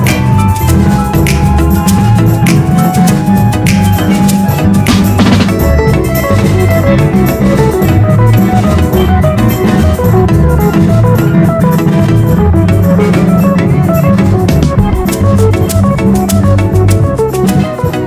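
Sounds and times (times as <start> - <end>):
steel pan band music: 0.0 - 18.0.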